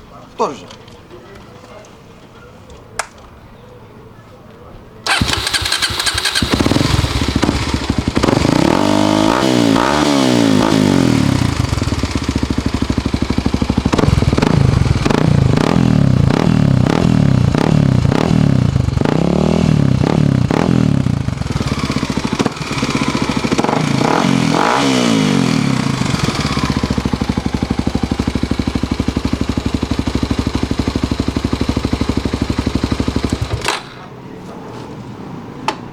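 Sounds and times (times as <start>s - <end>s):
motorcycle engine revving and idling: 5.1s - 33.9s.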